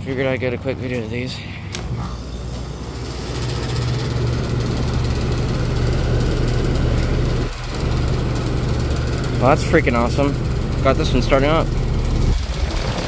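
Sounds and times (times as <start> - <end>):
heat pump humming: 0.0 - 13.0.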